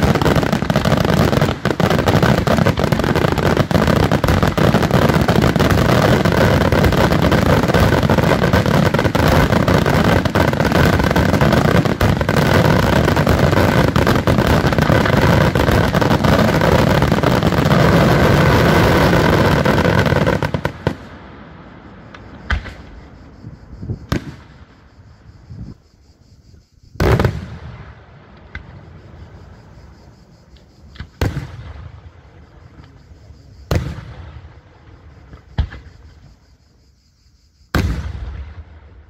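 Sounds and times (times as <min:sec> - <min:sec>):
fireworks bangs and crackling: 0:00.0 - 0:24.8, 0:26.9 - 0:29.9, 0:30.5 - 0:36.4, 0:37.7 - 0:39.0.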